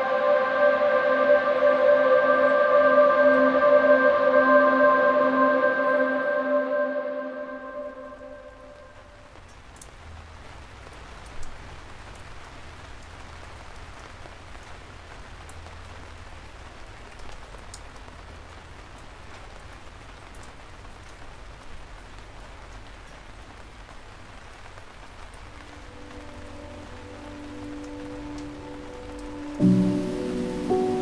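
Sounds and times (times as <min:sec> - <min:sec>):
steady rain hiss: 0:00.0 - 0:05.4, 0:07.4 - 0:31.0.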